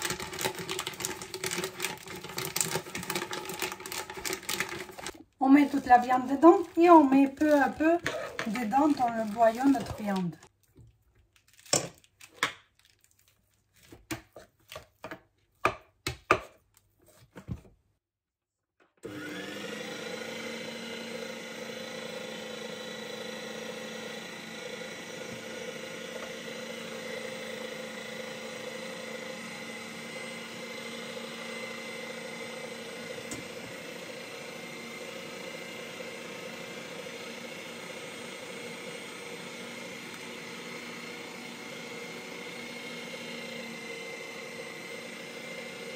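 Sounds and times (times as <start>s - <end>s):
electric meat grinder humming: 0.0s - 10.4s, 19.0s - 45.9s.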